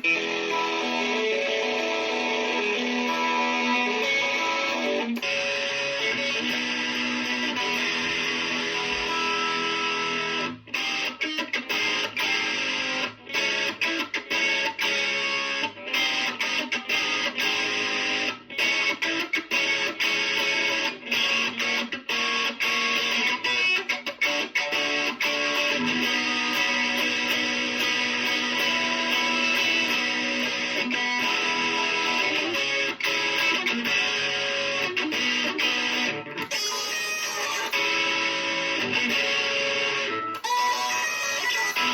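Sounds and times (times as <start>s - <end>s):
electric guitar playing: 0.0s - 41.9s.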